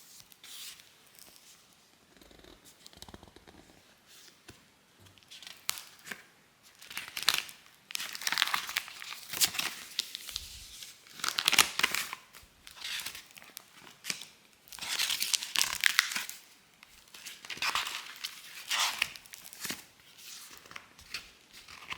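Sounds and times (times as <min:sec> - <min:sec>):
crinkling and rustling: 0:00.1 - 0:21.9.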